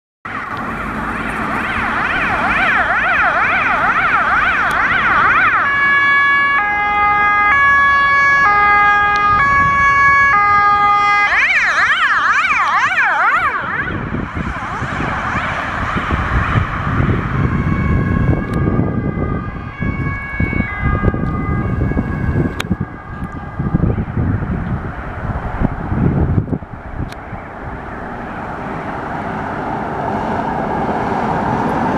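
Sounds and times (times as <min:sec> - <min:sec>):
ambulance siren: 0:00.3 - 0:31.9
road traffic rumbling: 0:00.3 - 0:31.9.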